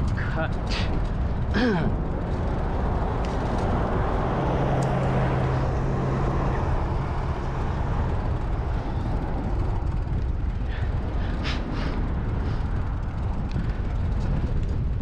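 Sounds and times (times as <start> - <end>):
road traffic noise: 0.0 - 15.0
vehicle engine humming: 0.0 - 15.0
wind rumbling on microphone: 0.0 - 15.0.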